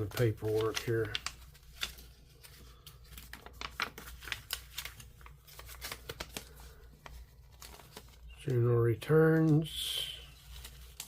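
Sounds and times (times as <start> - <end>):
paper leaflets rustling: 0.0 - 8.4, 9.1 - 11.0.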